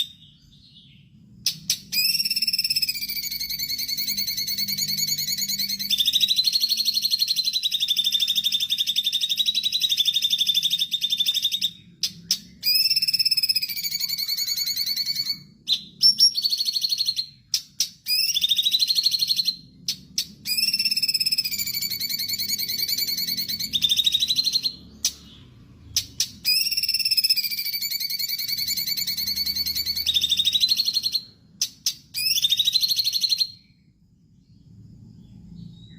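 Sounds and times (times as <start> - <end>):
bird trilling whistled song: 0.0 - 34.6, 35.2 - 35.9.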